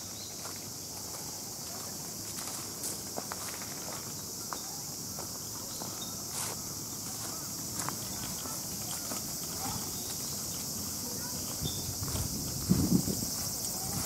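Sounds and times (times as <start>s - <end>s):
footsteps on grass: 0.0s - 14.0s
insects droning: 0.0s - 14.0s.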